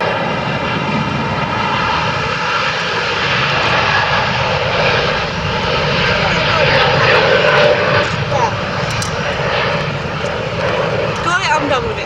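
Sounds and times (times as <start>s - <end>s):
jet engines roaring with whine: 0.0s - 12.0s.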